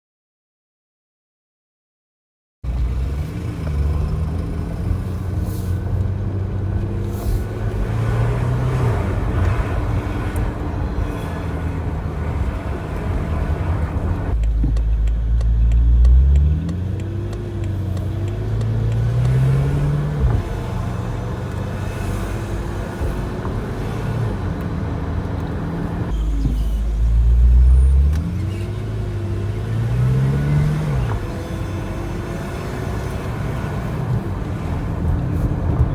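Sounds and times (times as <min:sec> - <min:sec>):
car engine running: 0:03.5 - 0:35.9.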